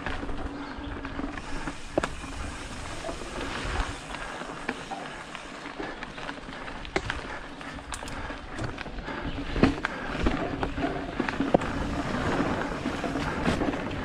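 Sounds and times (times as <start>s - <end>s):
bicycle tyre noise on dirt: 0.0s - 14.0s
bike rattling: 0.0s - 14.0s.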